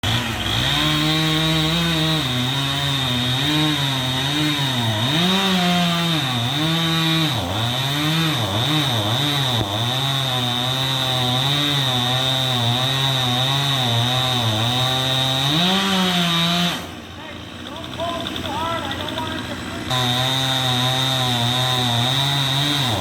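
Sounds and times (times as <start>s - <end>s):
chainsaw cutting tree: 0.0s - 23.0s.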